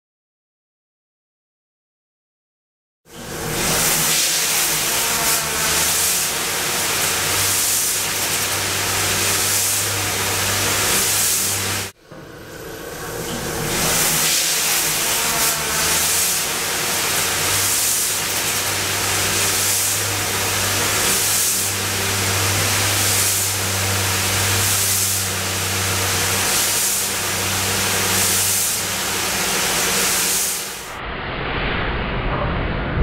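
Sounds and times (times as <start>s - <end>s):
water jets spraying metal: 3.2s - 12.0s, 12.6s - 30.9s.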